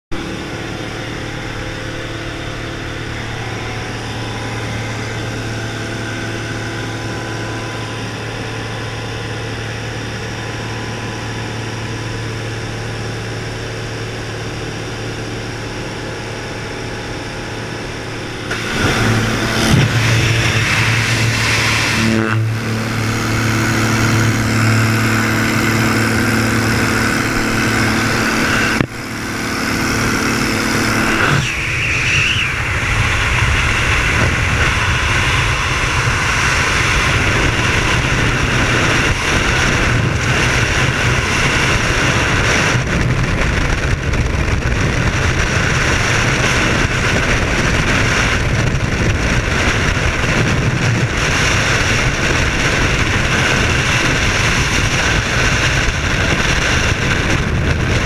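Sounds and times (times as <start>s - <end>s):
light aircraft engine droning: 0.1s - 58.0s
rush of wind: 0.1s - 58.0s.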